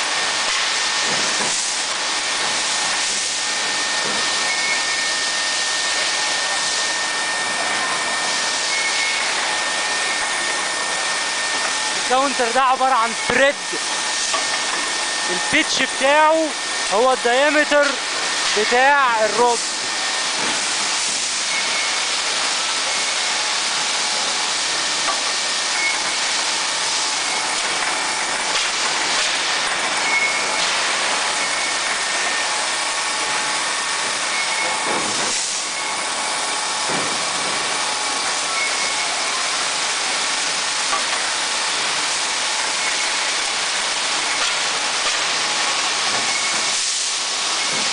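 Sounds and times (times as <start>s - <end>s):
loud hissing mill machinery: 0.0s - 47.9s.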